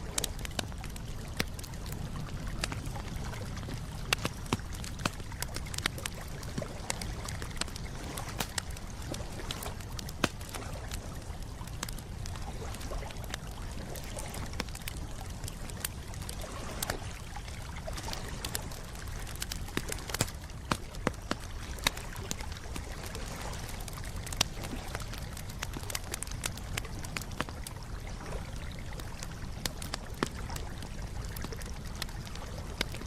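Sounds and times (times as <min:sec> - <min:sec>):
campfire crackling and popping: 0:00.0 - 0:33.0
low rush of burning fire: 0:00.0 - 0:33.0.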